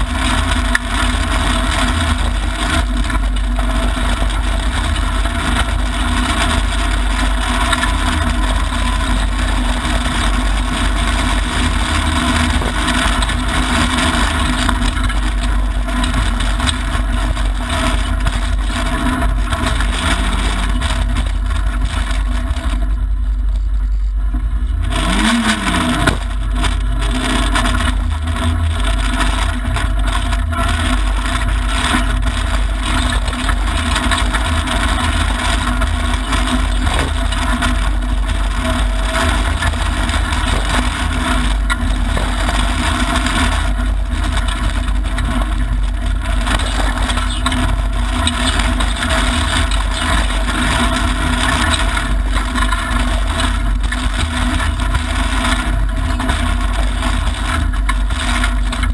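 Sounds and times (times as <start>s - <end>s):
gravel and tyre noise: 0.0s - 58.9s
rally car engine running hard: 0.0s - 58.9s.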